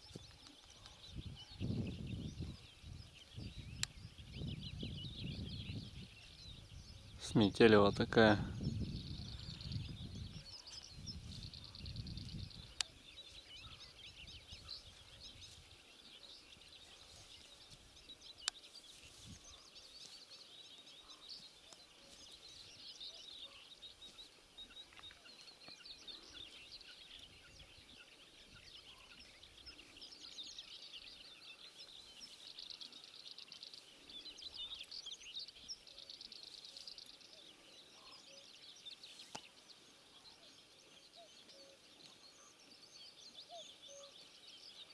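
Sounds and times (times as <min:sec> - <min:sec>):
small songbirds chirping: 0:00.0 - 0:44.9.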